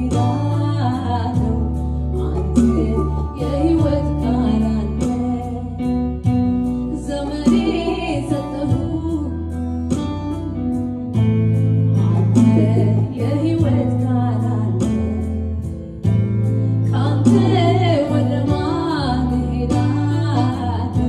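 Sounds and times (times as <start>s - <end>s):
woman singing into a microphone: 0.0s - 10.6s, 12.0s - 16.2s, 16.8s - 21.0s
electronic keyboard chords and bass: 0.0s - 21.0s.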